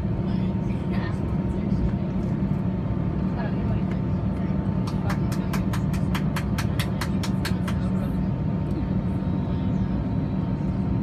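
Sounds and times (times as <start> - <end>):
aircraft cabin hum: 0.0 - 11.0.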